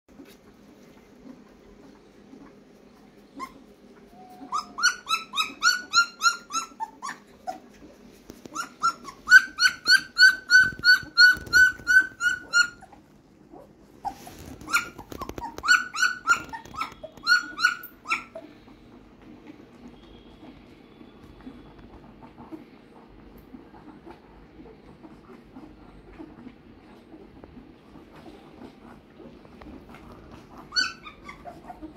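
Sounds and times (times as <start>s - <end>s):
puppies crying: 1.2s - 20.5s, 23.5s - 31.9s.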